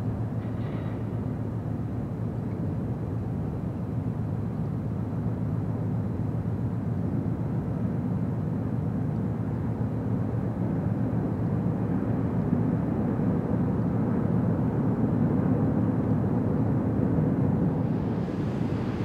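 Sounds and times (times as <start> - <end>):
low rumble of ship engines: 0.0 - 19.0.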